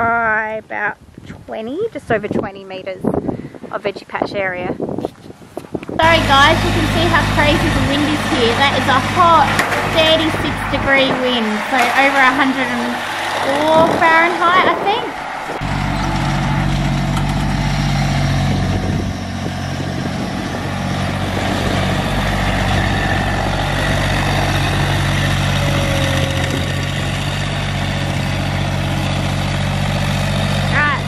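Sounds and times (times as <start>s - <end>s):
vehicle engine idling: 6.0s - 31.0s.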